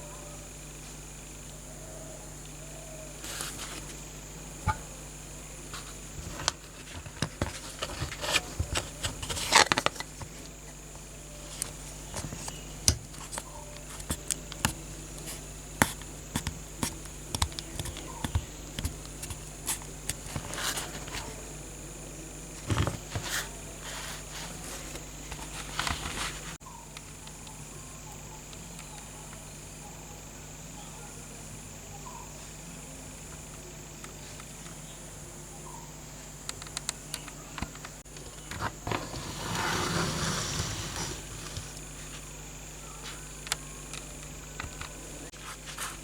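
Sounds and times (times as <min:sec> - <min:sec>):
faint hum: 0:00.0 - 0:46.0.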